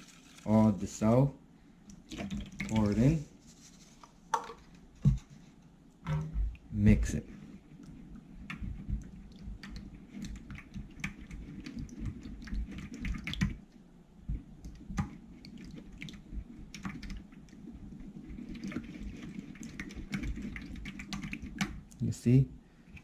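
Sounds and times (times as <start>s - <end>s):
utensil stirring wet slime: 1.8s - 5.6s, 6.3s - 22.0s.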